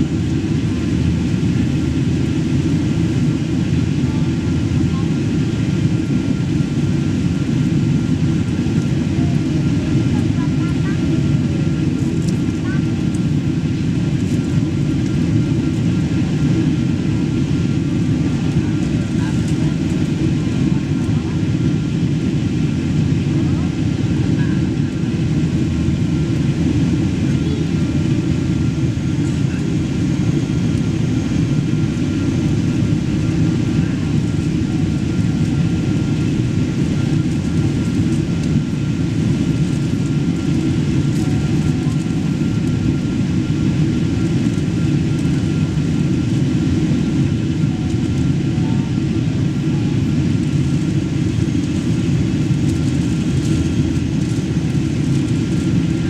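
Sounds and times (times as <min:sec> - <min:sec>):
low drone of jet engines: 0:00.0 - 0:56.0.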